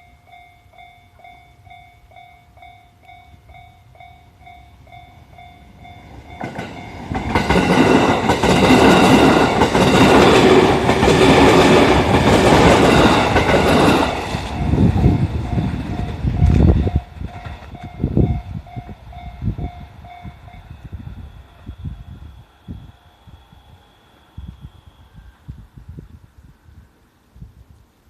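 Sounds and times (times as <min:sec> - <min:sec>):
electric train passing: 0:00.0 - 0:27.2.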